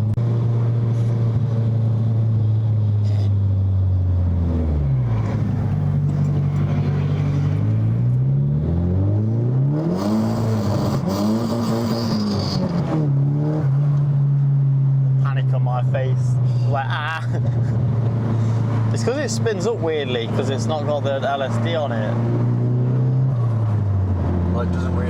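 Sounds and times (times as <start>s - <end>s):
car engine revving: 0.0s - 15.5s, 17.1s - 25.0s.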